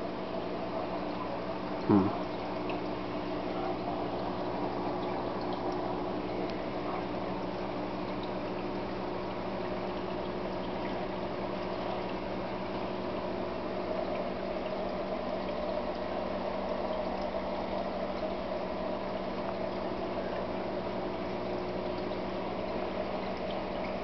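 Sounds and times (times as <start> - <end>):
aquarium water bubbling: 0.0 - 24.0
low steady hum: 0.0 - 24.0.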